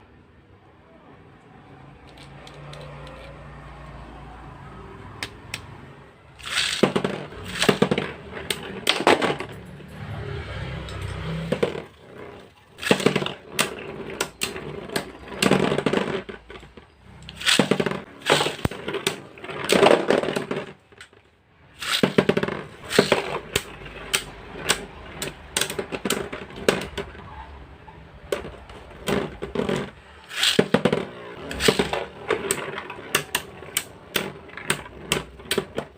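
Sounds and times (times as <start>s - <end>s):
plastic spinning tops clattering: 2.0s - 3.4s, 6.4s - 9.8s, 10.9s - 27.3s, 28.2s - 35.9s.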